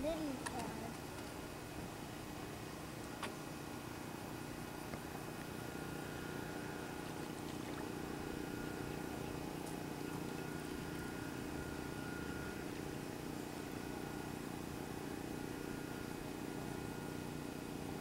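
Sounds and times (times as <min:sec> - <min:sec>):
distant engine hum: 0:00.0 - 0:18.0.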